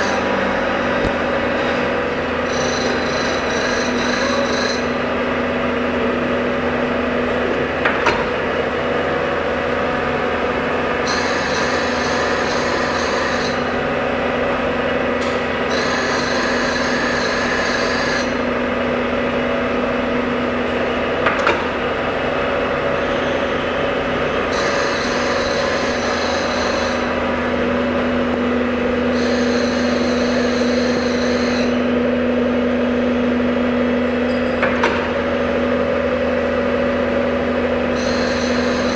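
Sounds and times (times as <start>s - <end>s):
sharpening machine hum: 0.0s - 38.9s.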